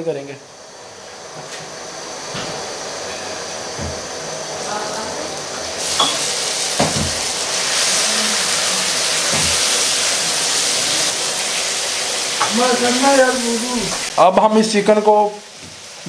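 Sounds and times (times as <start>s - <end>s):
meat sizzling in a wok: 0.4s - 16.0s.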